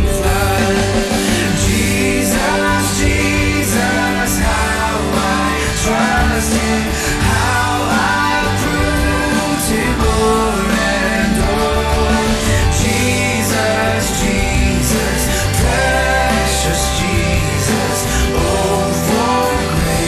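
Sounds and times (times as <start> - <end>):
bass guitar: 0.0 - 20.0
guitar: 0.0 - 20.0
people singing worship song: 0.0 - 20.0.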